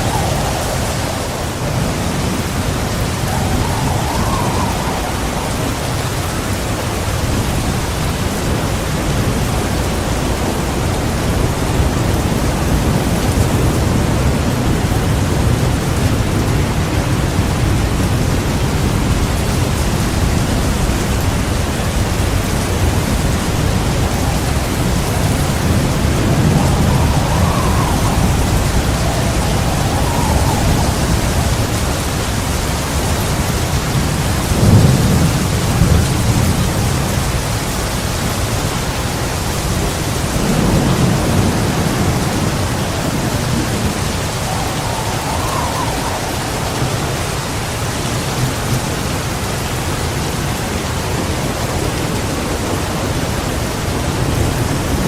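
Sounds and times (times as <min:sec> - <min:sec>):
thunder clap: 0:00.0 - 0:38.6, 0:39.2 - 0:48.9
heavy rain falling: 0:00.0 - 0:55.0
thunder rumbling: 0:00.0 - 0:55.0.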